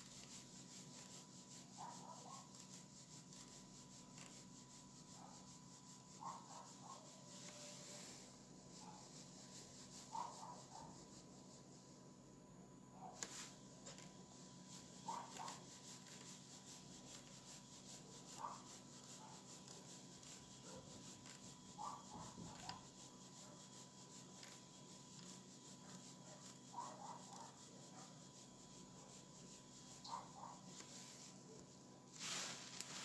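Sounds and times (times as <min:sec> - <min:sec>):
steady high hum: 0:00.0 - 0:33.0.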